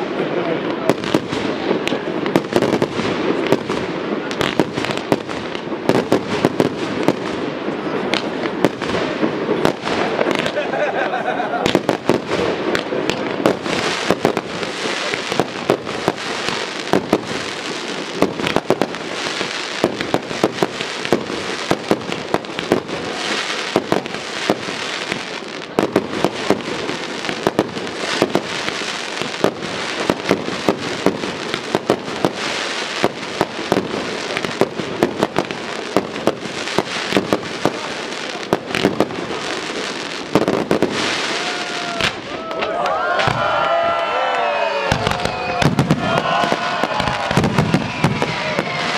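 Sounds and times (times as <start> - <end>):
fireworks bangs: 0.0 - 48.9
fireworks crackle: 0.0 - 48.9.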